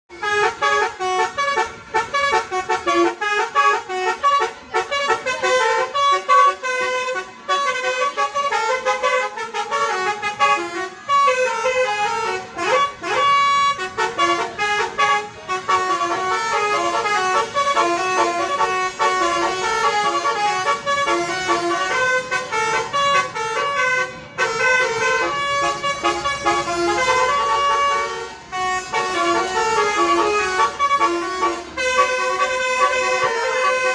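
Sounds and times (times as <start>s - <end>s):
multi-tone bus horn: 0.1s - 33.9s.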